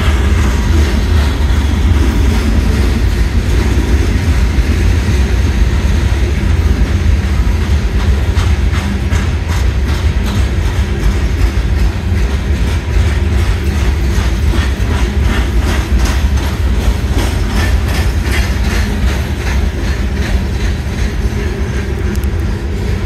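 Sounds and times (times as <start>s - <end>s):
rumble of steel train wheels: 0.0s - 23.0s
wheels clickety-clack on rail joints: 0.0s - 23.0s.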